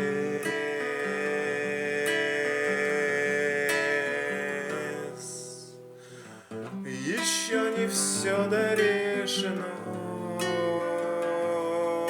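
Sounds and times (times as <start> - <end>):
person singing: 0.0 - 5.8, 6.7 - 12.0
acoustic guitar strumming: 0.0 - 12.0.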